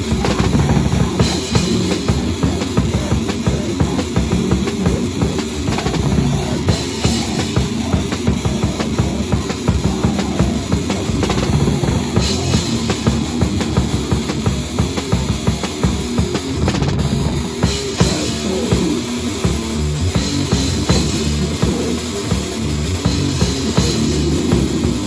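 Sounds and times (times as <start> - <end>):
fast drumming: 0.0 - 25.0
heavy metal band playing: 0.0 - 25.0.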